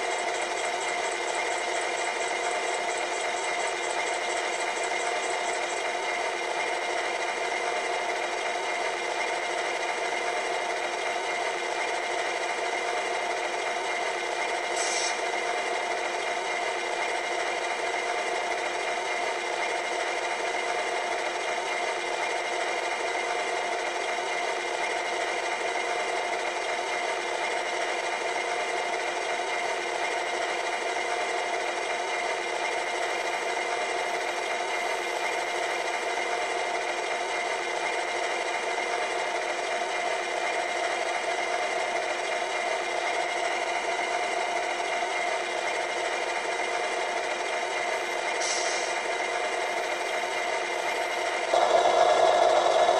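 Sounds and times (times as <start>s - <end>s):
thin diesel engine idle: 0.0s - 52.9s.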